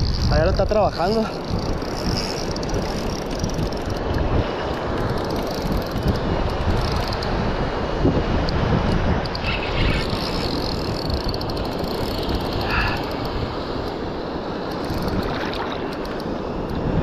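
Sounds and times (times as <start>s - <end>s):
fishing reel drag ticking: 0.0s - 7.4s, 8.9s - 14.0s, 14.6s - 16.9s
wind on microphone: 0.0s - 17.0s.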